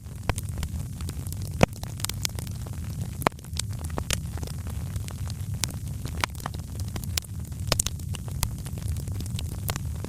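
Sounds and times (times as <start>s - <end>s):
wood fire crackling: 0.0s - 10.0s
sharp fire pops: 0.1s - 10.0s.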